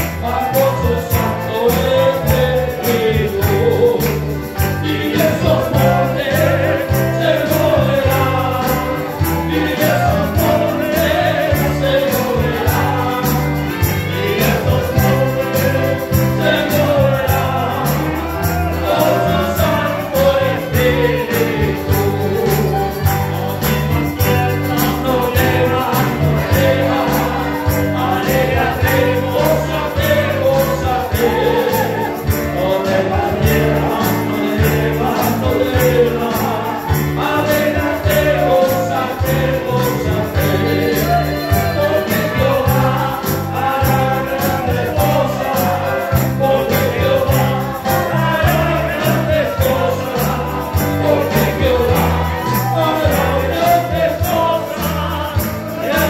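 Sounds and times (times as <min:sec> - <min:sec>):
band with bass and beat: 0:00.0 - 0:56.0
group singing worship song: 0:00.0 - 0:56.0.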